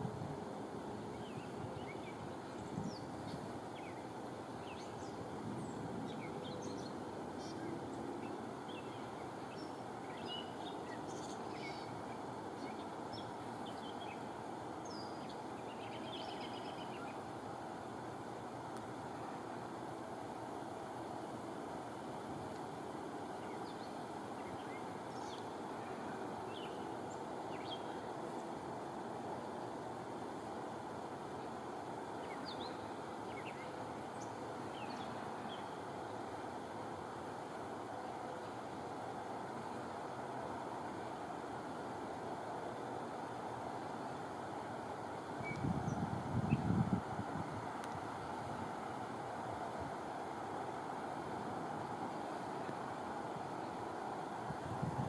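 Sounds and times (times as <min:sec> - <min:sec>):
low rushing background noise: 0:00.0 - 0:55.0.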